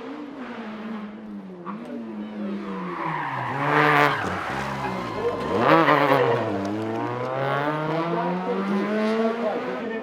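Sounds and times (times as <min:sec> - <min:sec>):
car engine revving: 0:00.2 - 0:09.9.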